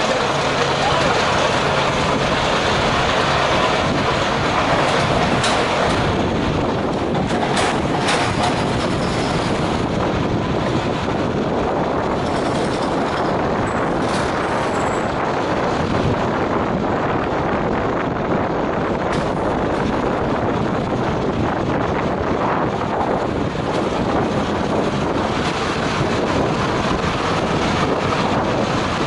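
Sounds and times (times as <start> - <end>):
fire engine running: 0.0 - 29.0.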